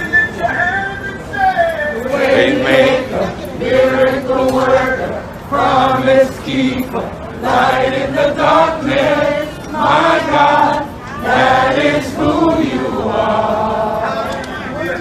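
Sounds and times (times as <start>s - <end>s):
crowd singing together: 1.9s - 15.0s.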